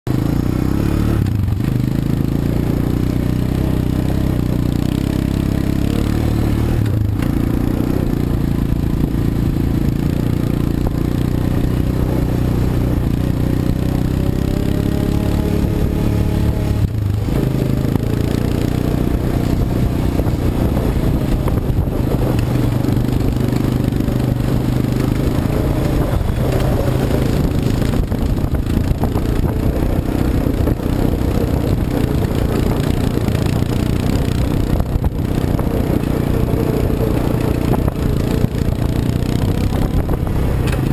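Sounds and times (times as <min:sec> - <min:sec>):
atv engine running: 0:00.1 - 0:40.9.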